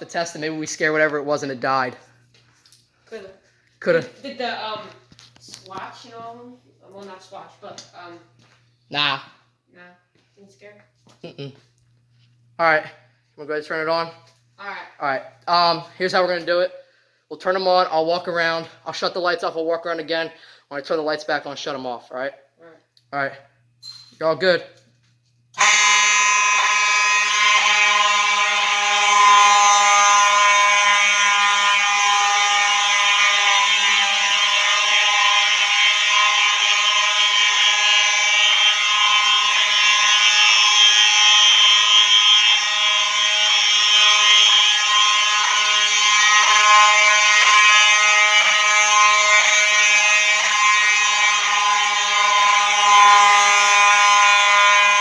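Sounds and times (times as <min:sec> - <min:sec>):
fire alarm horns blaring: 0:00.0 - 0:55.0.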